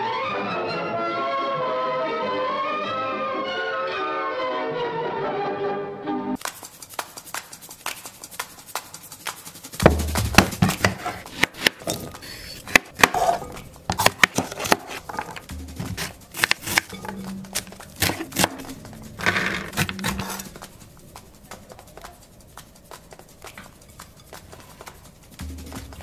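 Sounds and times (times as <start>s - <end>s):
background music: 0.0s - 7.8s, 9.3s - 26.0s.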